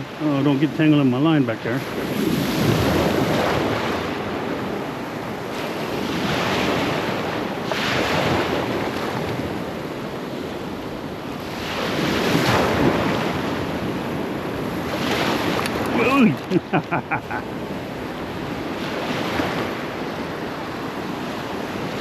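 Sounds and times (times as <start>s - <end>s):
ocean surf breaking: 0.0s - 22.0s
wind buffeting microphone: 1.7s - 22.0s.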